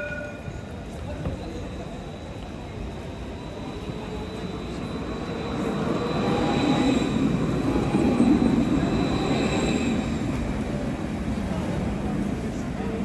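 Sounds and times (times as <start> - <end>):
electric tram passing: 0.0 - 13.0.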